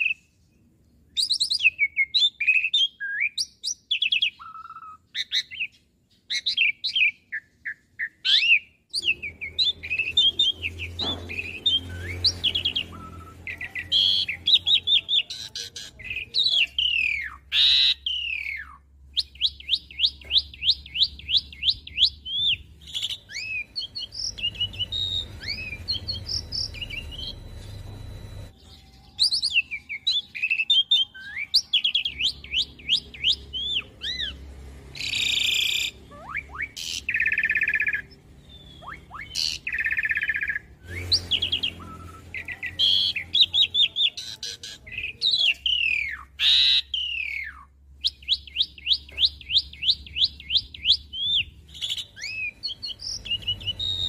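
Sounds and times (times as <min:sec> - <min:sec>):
starling singing: 0:01.2 - 0:54.0.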